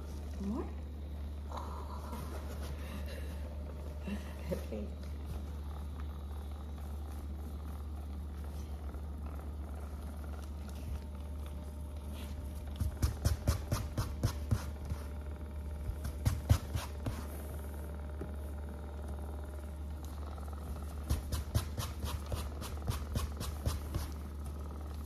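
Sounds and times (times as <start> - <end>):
massage gun buzzing: 0.0 - 25.0.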